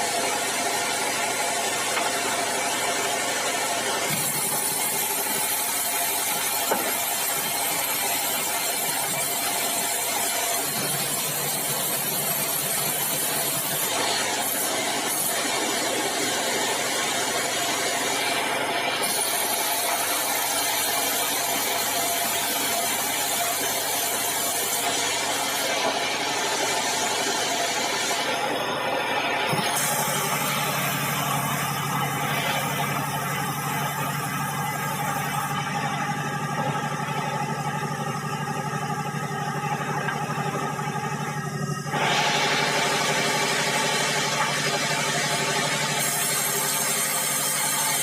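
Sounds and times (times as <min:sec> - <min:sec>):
band saw machinery drone: 0:00.0 - 0:48.0.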